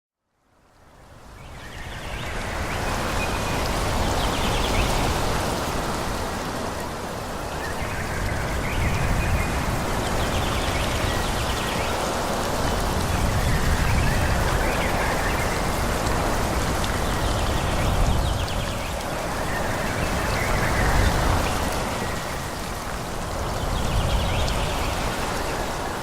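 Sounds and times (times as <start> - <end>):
wind rushing through trees: 0.2 - 26.0.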